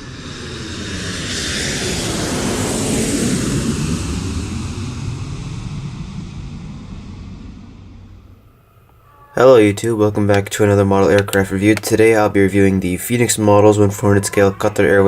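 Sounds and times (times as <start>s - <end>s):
airplane passing by: 0.0s - 15.0s.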